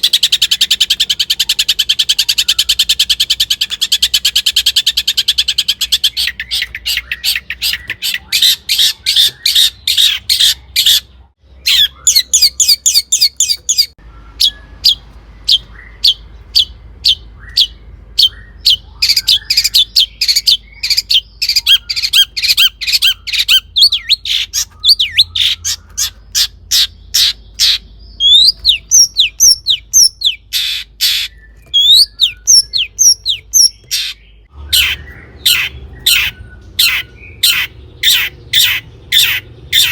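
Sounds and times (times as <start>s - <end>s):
bird harsh repeated notes: 0.0s - 39.9s.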